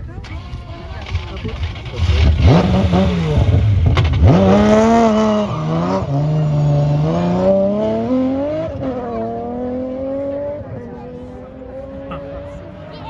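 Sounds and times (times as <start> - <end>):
car engine revving hard: 0.9 - 13.0.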